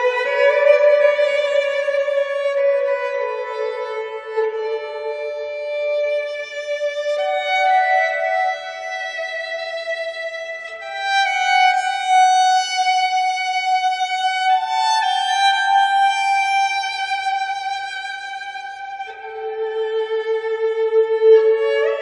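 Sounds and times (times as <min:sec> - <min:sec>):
slow violin melody: 0:00.0 - 0:22.0.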